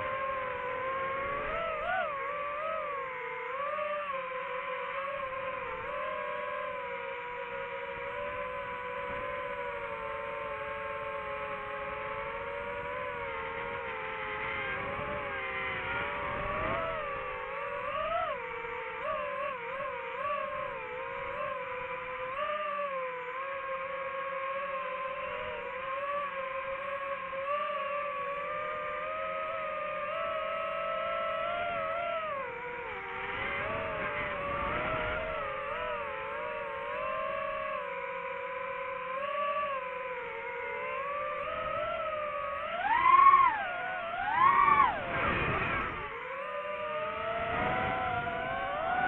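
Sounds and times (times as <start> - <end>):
drone propellers whining: 0.0 - 49.0.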